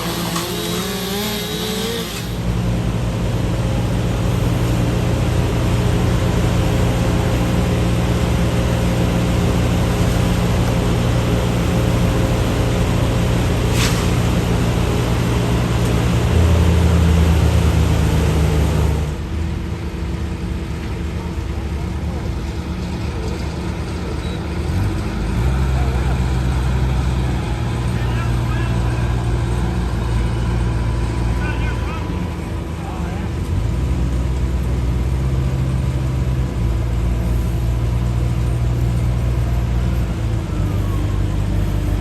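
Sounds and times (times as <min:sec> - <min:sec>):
heavy machinery engine running: 0:00.0 - 0:42.0.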